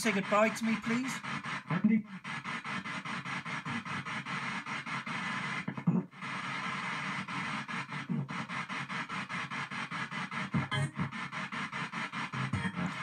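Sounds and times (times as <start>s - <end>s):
chopped radio static: 0.0s - 13.0s
snatches of broadcast sound: 0.0s - 13.0s.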